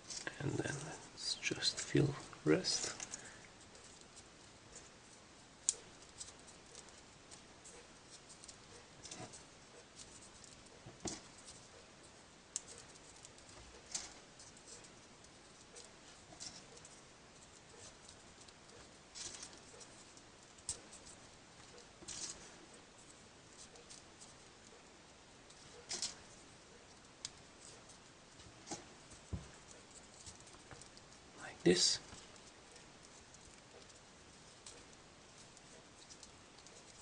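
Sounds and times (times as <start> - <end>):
soft paper clicks and rustles: 0.0 - 5.0, 5.6 - 37.0.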